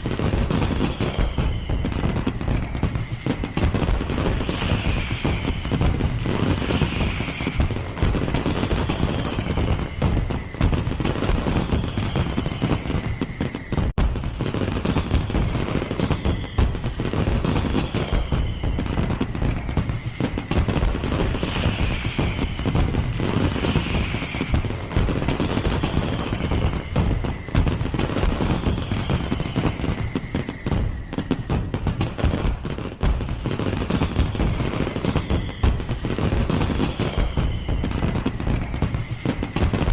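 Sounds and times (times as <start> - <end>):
falling firework whistle: 0.0 - 39.9
fireworks bangs and crackles: 0.0 - 39.9.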